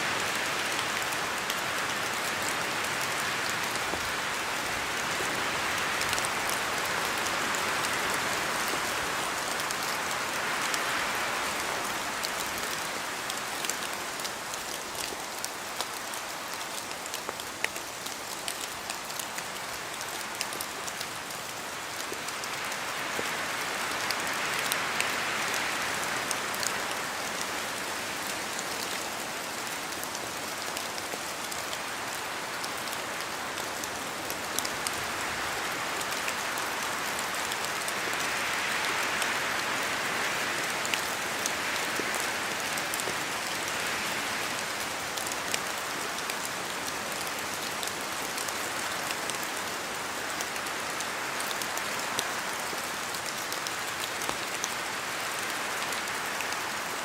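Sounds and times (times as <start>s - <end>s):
rain falling in a forest: 0.0s - 57.0s.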